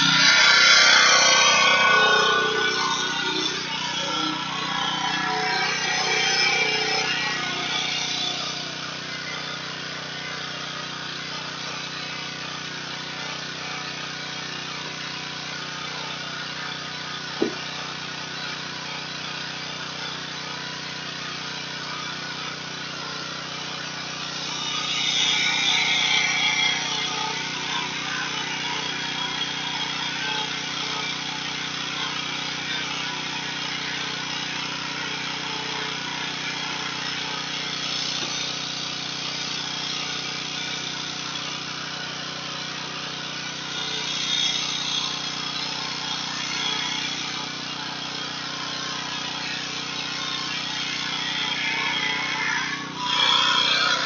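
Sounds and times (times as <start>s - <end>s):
pressure washer running: 0.0s - 54.0s.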